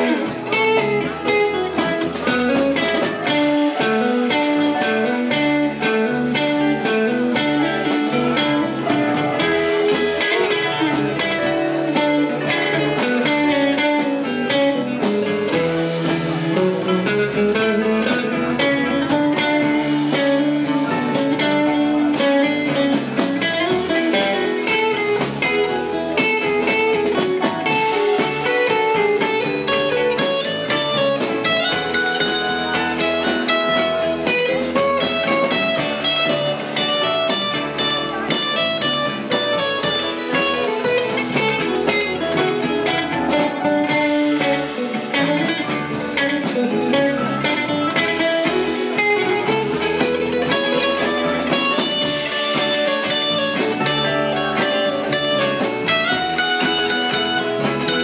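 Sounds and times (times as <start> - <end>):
drums: 0.0 - 58.0
electric guitar: 0.0 - 58.0
keyboards: 0.0 - 58.0.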